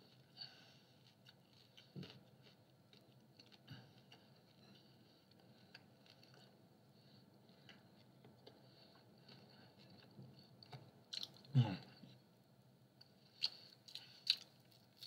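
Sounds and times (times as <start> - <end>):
faint chewing: 0.0 - 12.2, 13.0 - 15.0.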